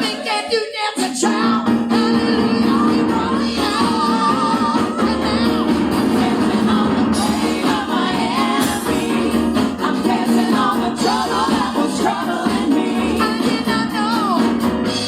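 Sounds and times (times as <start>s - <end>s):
gospel singing: 0.0s - 15.0s
guitar and band accompaniment: 1.6s - 15.0s.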